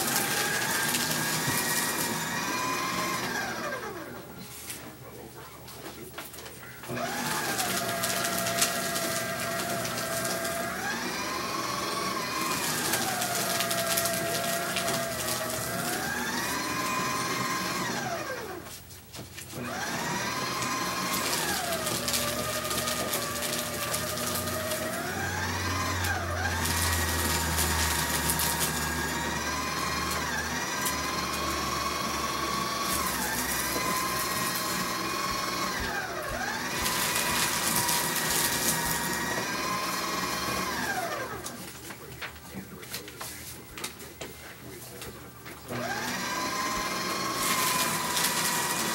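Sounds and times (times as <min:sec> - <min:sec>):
paper crackling as cut: 0:00.0 - 0:03.5, 0:06.3 - 0:11.1, 0:12.0 - 0:17.9, 0:18.6 - 0:45.1, 0:47.0 - 0:48.9
paper shredder motor whine: 0:00.0 - 0:05.2, 0:06.8 - 0:48.9.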